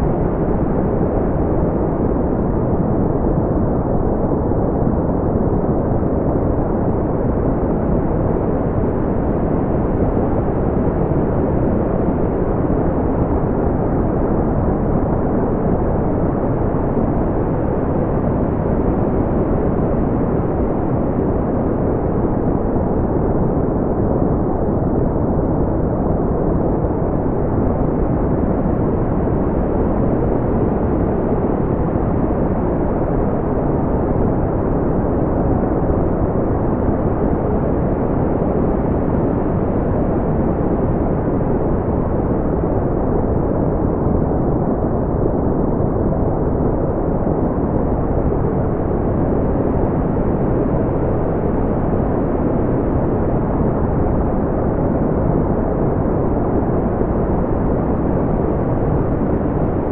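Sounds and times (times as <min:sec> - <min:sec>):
deep rumbling brown noise: 0:00.0 - 0:59.9.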